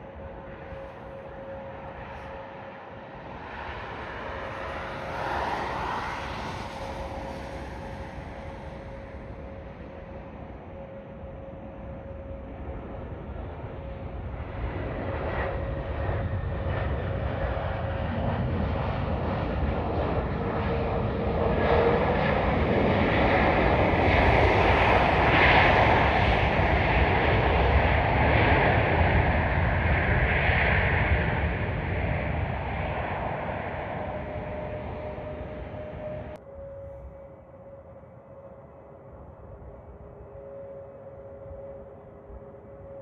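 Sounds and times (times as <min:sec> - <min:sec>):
jet airliner engines passing: 0:00.0 - 0:43.0.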